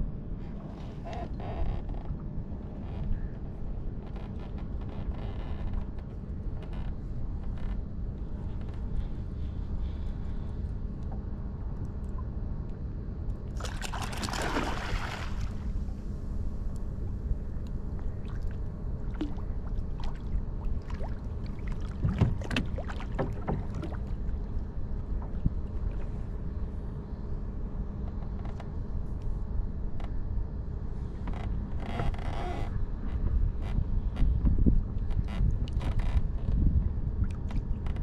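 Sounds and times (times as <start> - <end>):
water lapping against hull: 0.4 - 12.4, 13.5 - 16.2, 17.7 - 27.5, 31.0 - 38.0.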